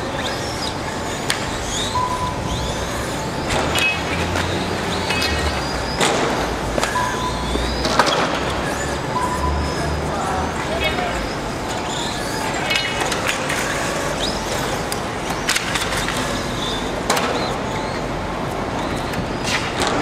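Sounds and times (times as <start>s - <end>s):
model car running: 0.0s - 20.0s.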